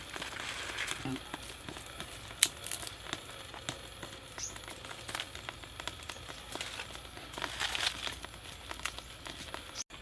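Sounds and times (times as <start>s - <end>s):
twig fire crackling and popping: 0.0s - 10.0s.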